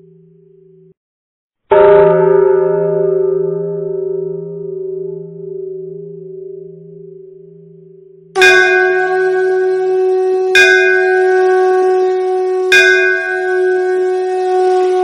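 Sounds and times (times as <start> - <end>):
large bell ringing: 1.7 - 15.0.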